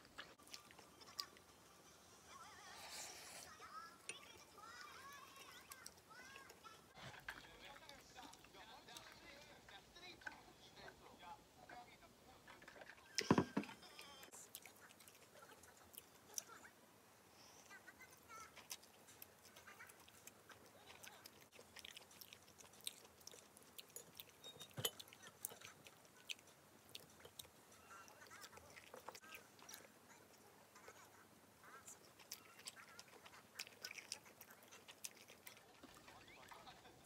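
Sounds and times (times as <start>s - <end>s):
chewing: 0.0s - 1.5s, 2.8s - 10.4s, 12.5s - 16.7s, 17.4s - 37.0s.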